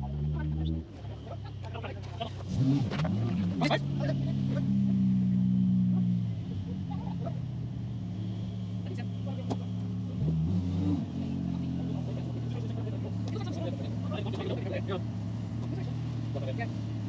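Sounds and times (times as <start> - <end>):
buggy engine running: 0.0 - 17.0.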